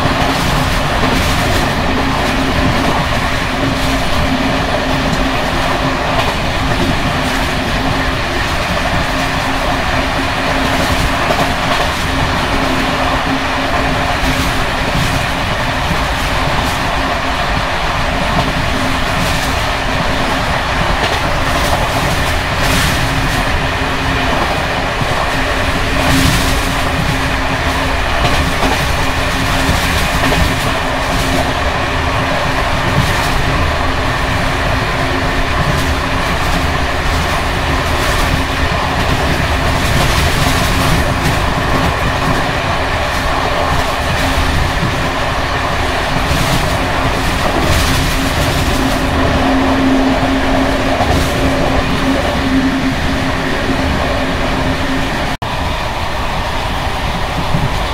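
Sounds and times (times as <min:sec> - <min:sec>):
train wheels rattling on track: 0:00.0 - 0:57.9.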